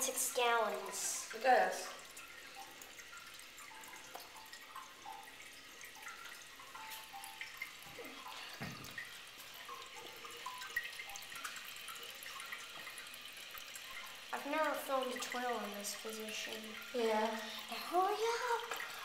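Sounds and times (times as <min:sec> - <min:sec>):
water trickling in toilet tank: 0:00.0 - 0:19.0.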